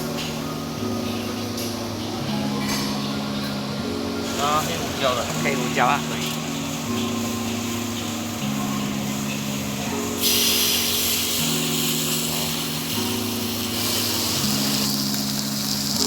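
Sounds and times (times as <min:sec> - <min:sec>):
background music of sustained chords: 0:00.0 - 0:16.0
steady hiss: 0:00.0 - 0:16.0.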